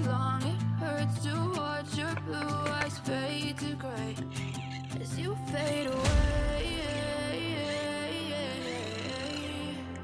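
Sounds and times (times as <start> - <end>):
slow pop music with singing: 0.0 - 10.0.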